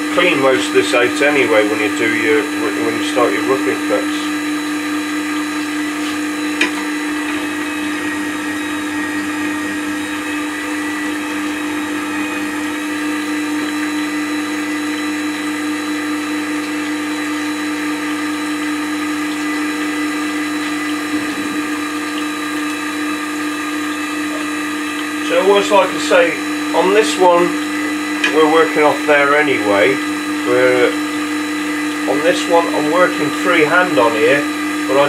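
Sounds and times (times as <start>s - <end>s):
electric motor humming: 0.0s - 35.0s.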